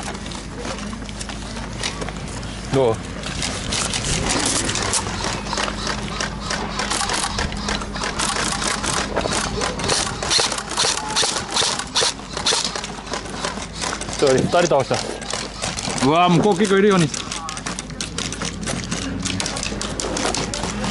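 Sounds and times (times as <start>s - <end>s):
gear rustling: 0.0s - 20.9s
airsoft rifles firing bursts: 3.7s - 20.9s.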